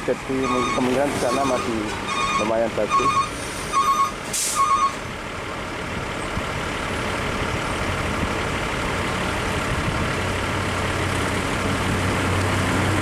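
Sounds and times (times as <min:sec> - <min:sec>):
low truck engine hum: 0:00.0 - 0:13.0
road and engine rumble: 0:00.0 - 0:13.0.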